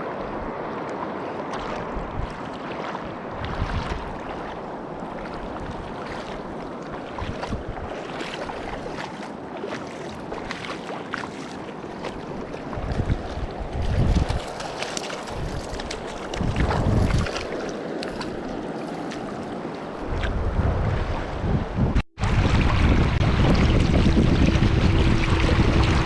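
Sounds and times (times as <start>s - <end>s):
wind buffeting microphone: 0.0s - 9.2s, 11.9s - 26.0s
water rushing: 0.0s - 21.5s, 22.2s - 26.0s
knocks and splashes: 1.5s - 20.5s, 22.2s - 26.0s.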